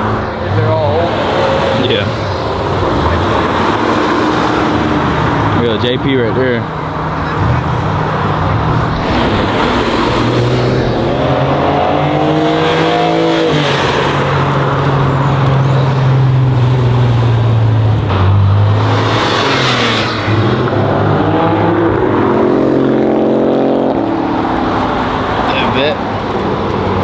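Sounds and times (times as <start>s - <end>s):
car engines droning and revving: 0.0s - 27.0s.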